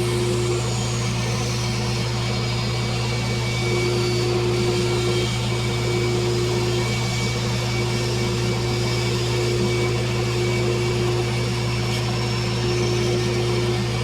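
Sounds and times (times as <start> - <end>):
electric motor humming and whining: 0.0 - 14.0.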